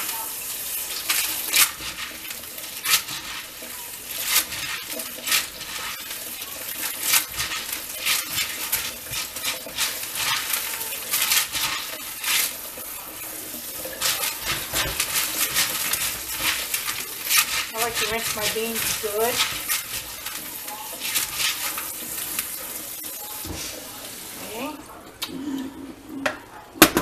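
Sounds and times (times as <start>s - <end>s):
steady water hiss: 0.0s - 24.8s
beans rattling in colander: 0.1s - 23.2s.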